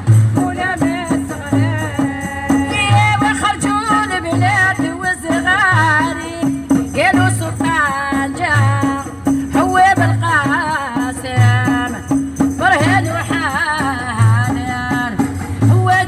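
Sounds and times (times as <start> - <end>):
low drum beat: 0.0 - 16.0
percussion and rattles: 0.0 - 16.0
woman singing: 0.0 - 16.0.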